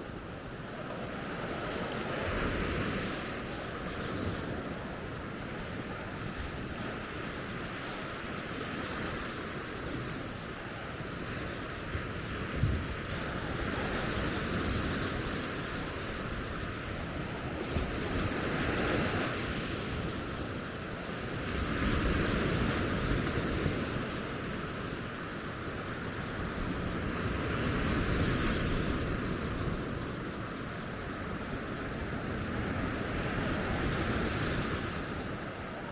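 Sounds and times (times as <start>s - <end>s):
waves breaking on beach: 0.0s - 35.9s
wind on microphone: 0.0s - 35.9s.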